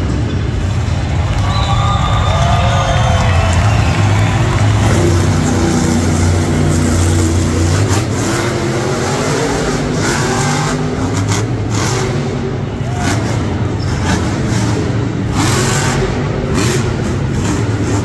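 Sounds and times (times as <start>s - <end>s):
truck engine revving loudly: 0.0s - 18.0s.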